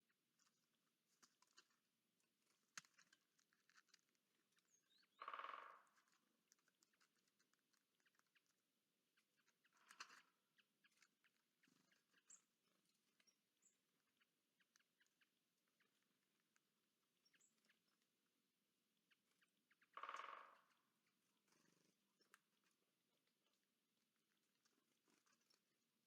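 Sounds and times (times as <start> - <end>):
faint ticks and clicks: 0.0 - 26.0.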